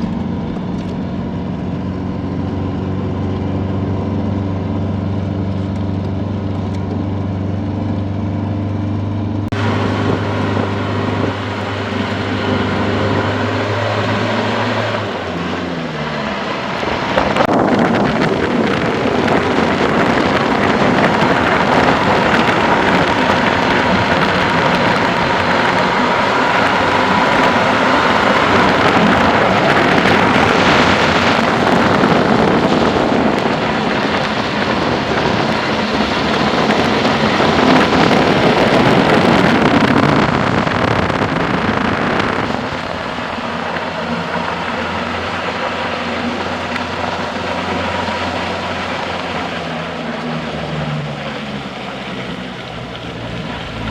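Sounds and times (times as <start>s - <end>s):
vehicle engine humming: 0.0s - 53.9s
steady rushing noise: 9.2s - 53.9s.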